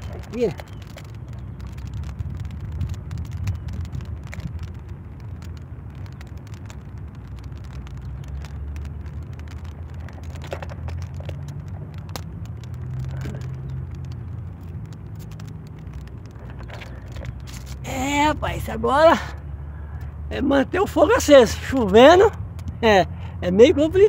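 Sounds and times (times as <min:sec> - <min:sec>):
dry twigs snapping: 0:00.0 - 0:24.0
wind buffeting microphone: 0:00.0 - 0:24.0.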